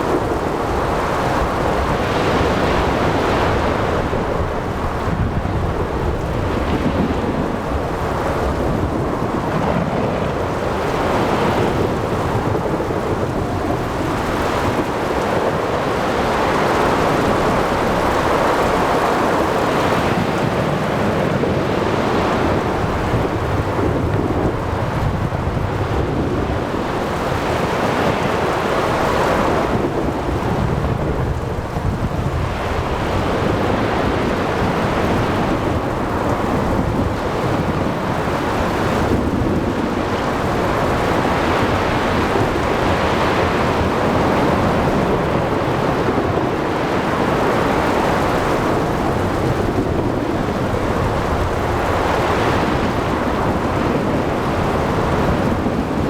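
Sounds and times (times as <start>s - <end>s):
waves breaking: 0.0s - 56.0s
wind blowing: 0.0s - 56.0s.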